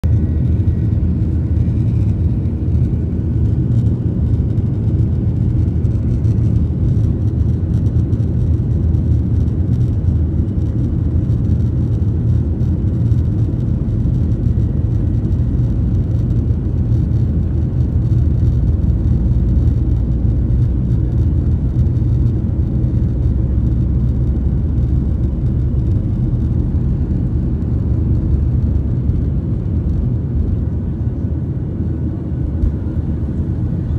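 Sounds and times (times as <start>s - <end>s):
aircraft cabin low rumble: 0.0s - 33.9s.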